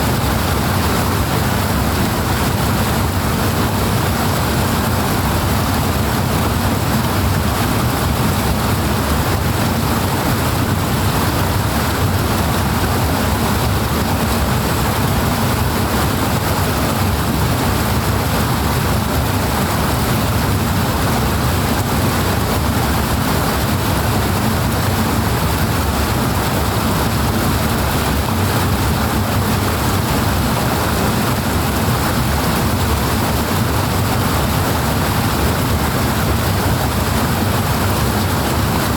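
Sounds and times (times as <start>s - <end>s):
powerful rushing water: 0.0s - 38.9s.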